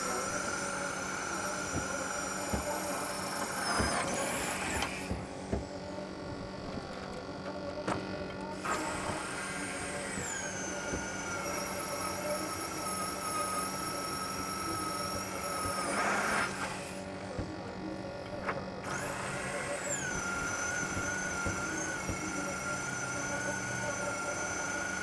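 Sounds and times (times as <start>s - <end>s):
power tool motor whining: 0.0s - 5.6s, 8.6s - 17.1s, 18.8s - 25.0s.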